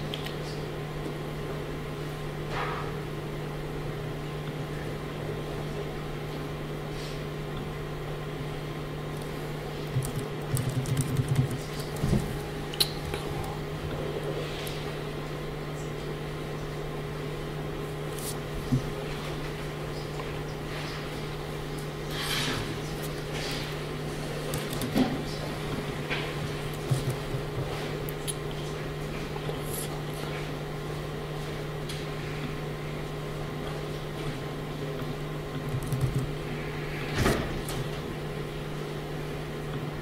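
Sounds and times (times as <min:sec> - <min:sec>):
ventilation hum: 0:00.0 - 0:40.0.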